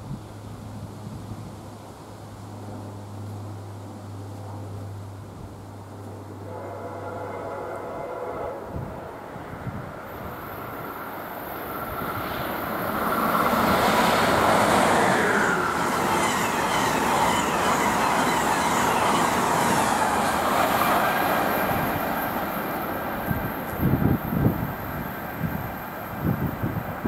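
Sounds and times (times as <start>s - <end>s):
train passing: 0.2s - 27.0s.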